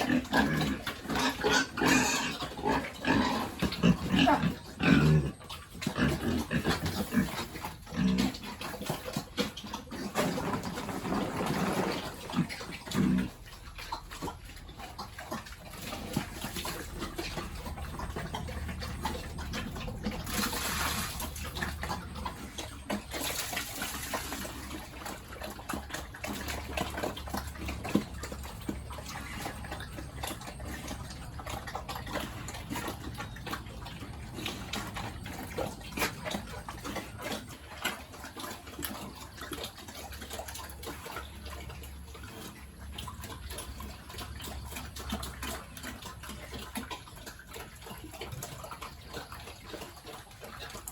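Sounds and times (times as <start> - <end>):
animal noises: 0.0 - 50.9
running splashing water: 0.0 - 50.9.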